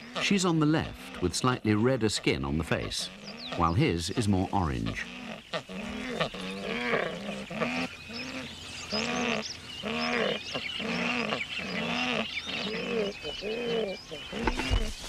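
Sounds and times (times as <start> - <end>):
birds croaking calls: 0.0 - 15.0.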